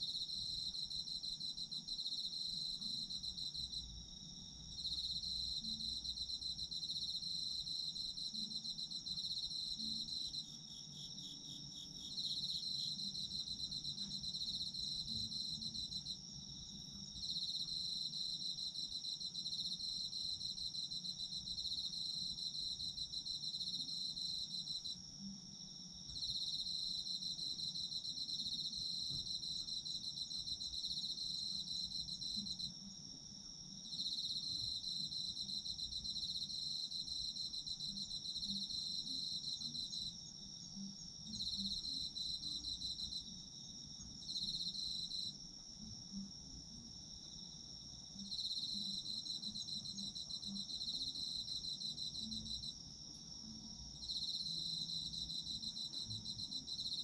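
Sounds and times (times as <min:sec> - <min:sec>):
rapid insect chirps: 0:00.0 - 0:57.0
steady high insect trill: 0:00.0 - 0:57.0.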